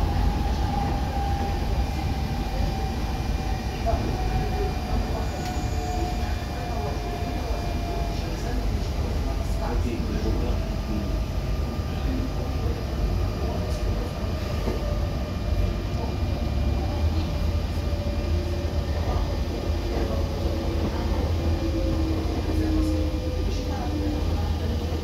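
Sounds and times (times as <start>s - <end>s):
train carriage rumbling on track: 0.0s - 25.0s.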